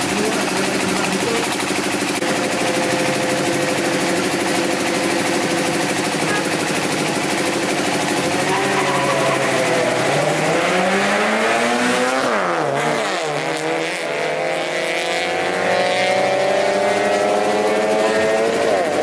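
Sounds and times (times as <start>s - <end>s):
race car accelerating hard: 0.0s - 19.0s.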